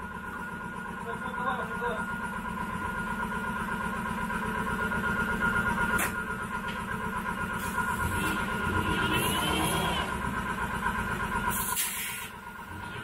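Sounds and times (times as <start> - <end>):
air compressor running: 0.0 - 13.0.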